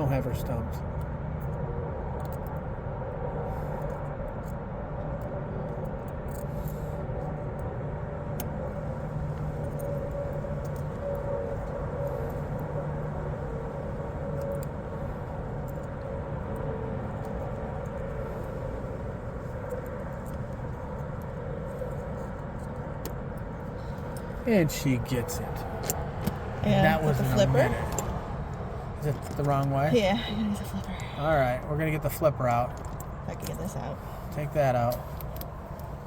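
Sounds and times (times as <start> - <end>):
low mechanical rumble: 0.0 - 36.0.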